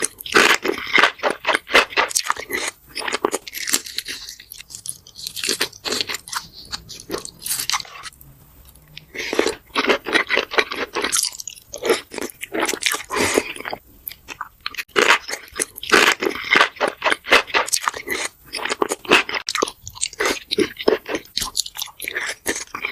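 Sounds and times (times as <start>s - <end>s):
crunchy biting and chewing: 0.0s - 8.2s, 9.0s - 22.9s.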